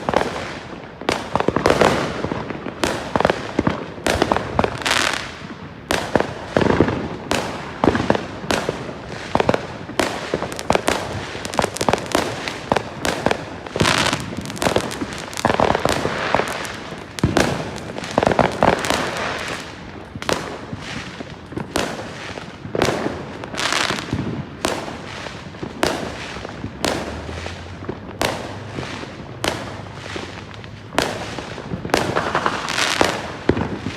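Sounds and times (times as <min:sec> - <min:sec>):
fireworks banging: 0:00.0 - 0:33.9.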